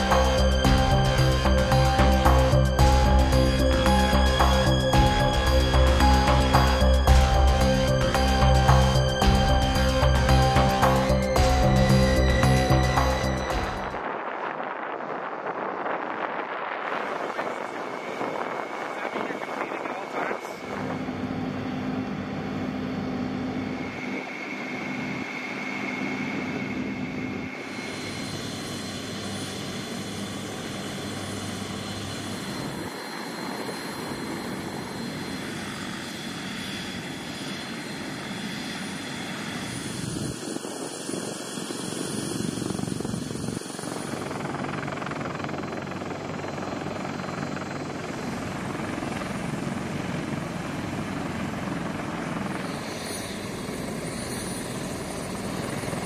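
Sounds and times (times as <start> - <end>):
helicopter turbine whine and rotors: 0.0 - 56.0.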